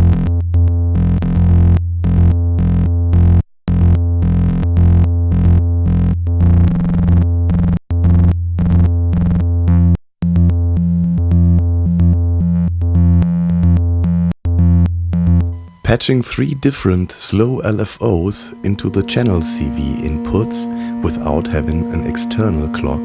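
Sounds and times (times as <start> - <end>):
buzzy synthesizer bass tone: 0.9 - 23.0.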